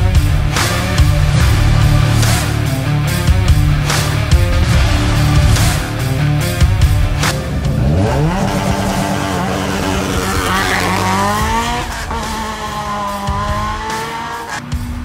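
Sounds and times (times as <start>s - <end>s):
race car engine revving and accelerating: 0.0s - 15.0s.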